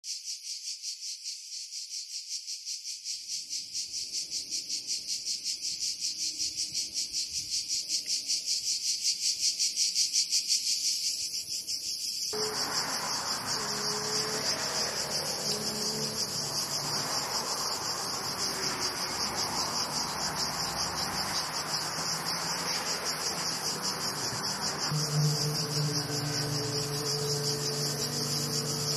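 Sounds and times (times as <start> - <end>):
cicadas buzzing: 0.1 - 28.9.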